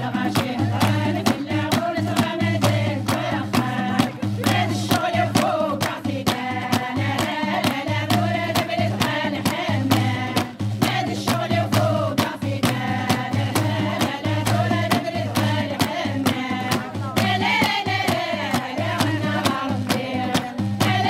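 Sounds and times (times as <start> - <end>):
hand-clapping: 0.0 - 21.0
women singing in chorus: 0.0 - 21.0.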